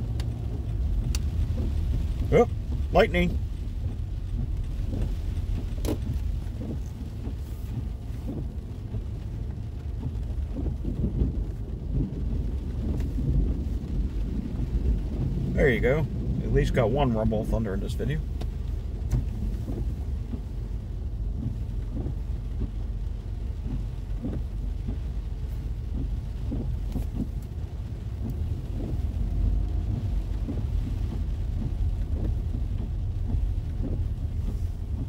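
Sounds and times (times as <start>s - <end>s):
rain tapping on a car: 0.0s - 35.0s
steady low rumble: 0.0s - 35.0s.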